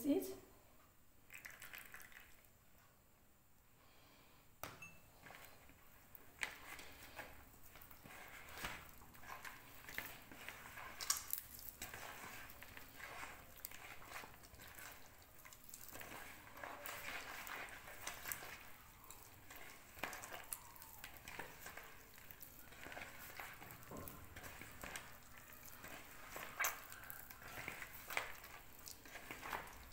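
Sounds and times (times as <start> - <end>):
hand squelching soft mixture: 1.2 - 2.7, 3.8 - 29.9.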